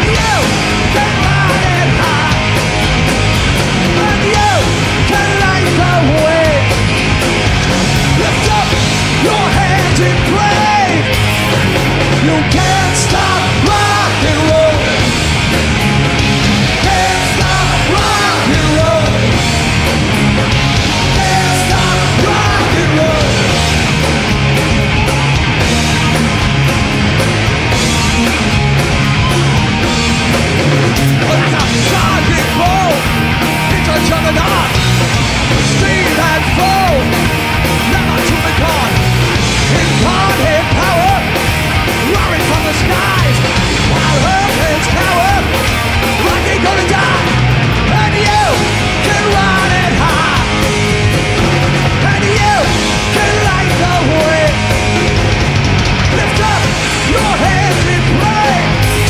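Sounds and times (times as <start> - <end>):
heavy punk rock music: 0.0 - 59.0.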